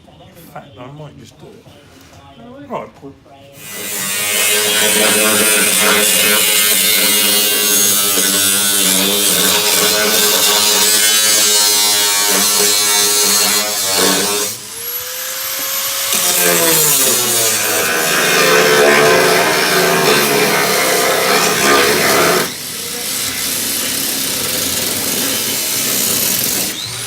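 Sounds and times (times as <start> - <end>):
angle grinder cutting steel: 3.6 - 27.0.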